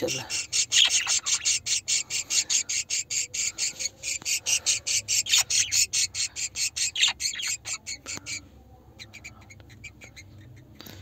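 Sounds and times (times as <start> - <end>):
budgerigars calling: 0.0 - 11.0.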